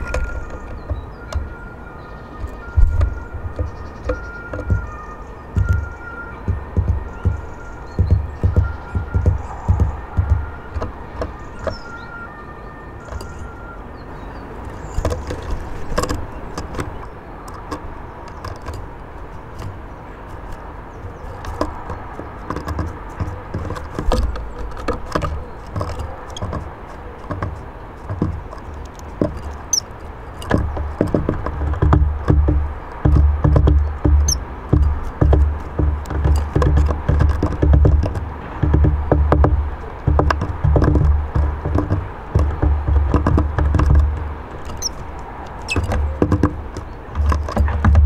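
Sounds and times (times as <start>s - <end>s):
birds pecking on wood: 0.0s - 48.0s.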